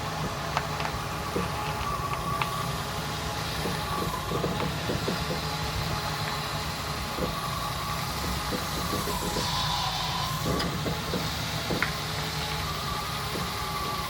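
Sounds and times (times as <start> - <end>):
car engine running: 0.0 - 14.0
engine popping: 0.0 - 14.0.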